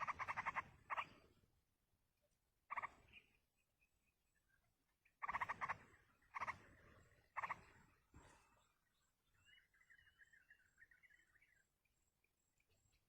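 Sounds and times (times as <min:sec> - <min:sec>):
rough pulsed bird calls: 0:00.0 - 0:01.4, 0:02.7 - 0:11.8
soft wavering bird twitter: 0:00.0 - 0:01.5, 0:02.7 - 0:13.0.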